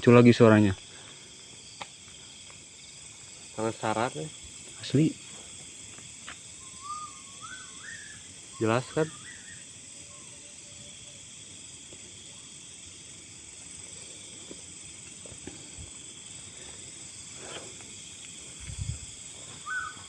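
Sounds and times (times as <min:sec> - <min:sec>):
night insects chirring: 0:00.0 - 0:20.0.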